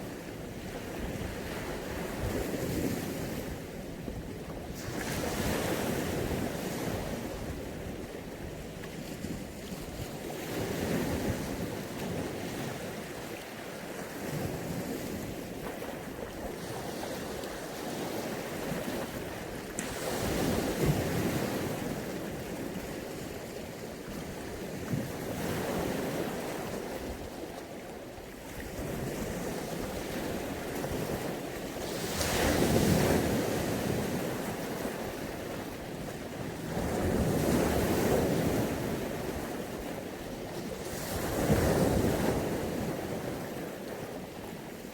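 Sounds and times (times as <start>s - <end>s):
sea waves breaking on beach: 0.0s - 44.9s.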